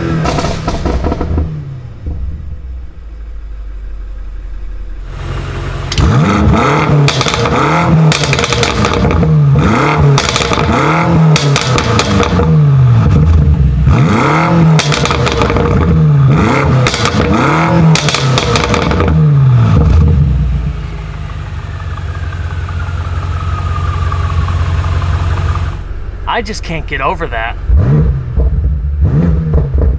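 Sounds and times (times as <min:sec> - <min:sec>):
car engine idling: 0:00.0 - 0:29.9
car engine revving: 0:00.0 - 0:29.9
exhaust crackling and popping: 0:00.0 - 0:29.9.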